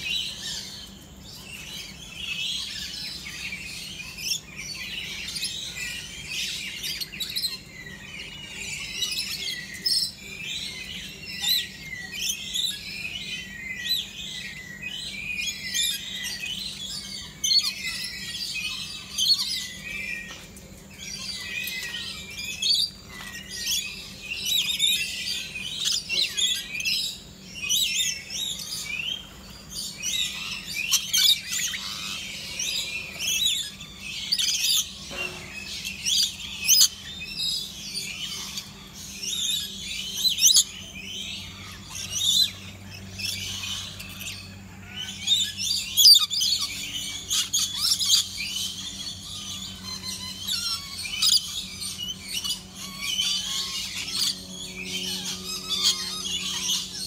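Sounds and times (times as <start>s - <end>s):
parrots chattering and screeching: 0.0s - 57.0s.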